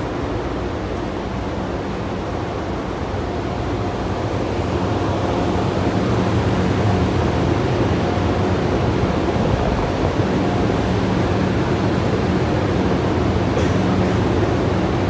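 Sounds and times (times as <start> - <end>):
subway train humming at platform: 0.0 - 15.0.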